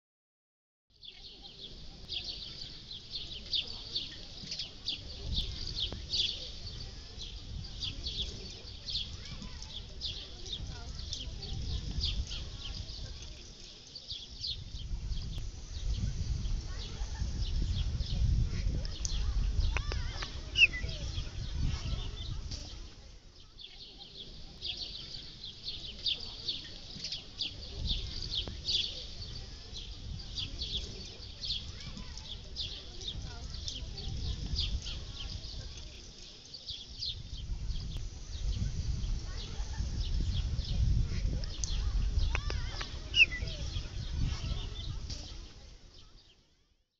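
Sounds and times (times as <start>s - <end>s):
small birds chirping: 0.9s - 46.9s.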